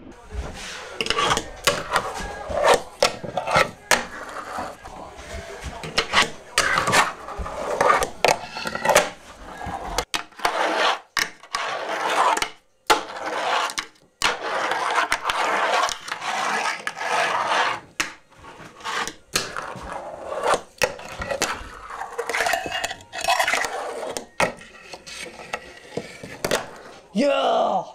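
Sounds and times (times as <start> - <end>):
fingerboard wheels rolling on wood: 0.4 - 26.9.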